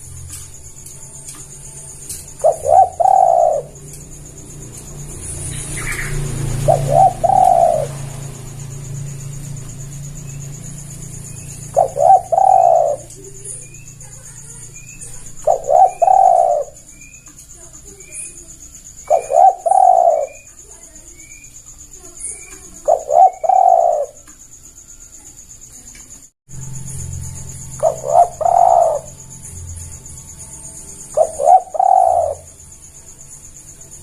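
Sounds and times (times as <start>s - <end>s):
dove cooing: 0.0s - 21.4s, 22.0s - 24.3s, 27.7s - 29.3s, 30.6s - 32.7s
faint high chirps: 0.0s - 34.0s.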